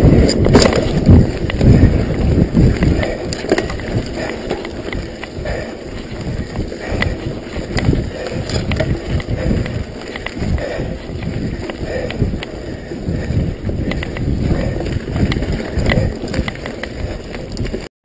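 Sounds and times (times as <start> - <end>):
bike knocking and rattling: 0.0 - 17.9
wind buffeting microphone: 0.0 - 17.9.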